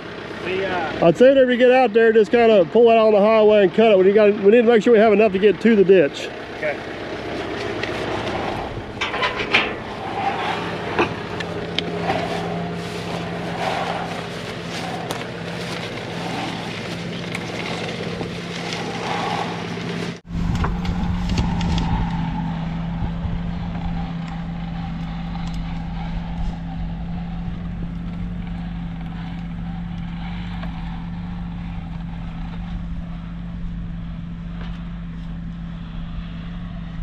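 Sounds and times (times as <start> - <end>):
heavy low rumble: 0.0 - 37.0
tractor engine running: 0.0 - 37.0.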